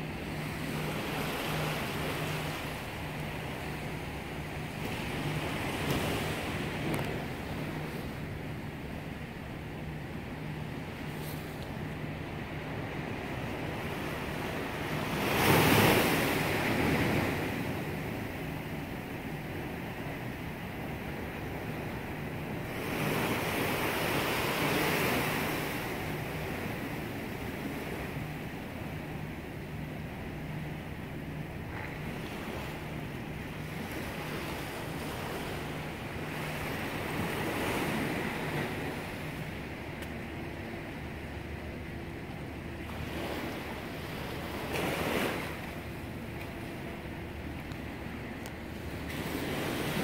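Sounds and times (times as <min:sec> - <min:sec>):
ocean surf washing in: 0:00.0 - 0:50.0.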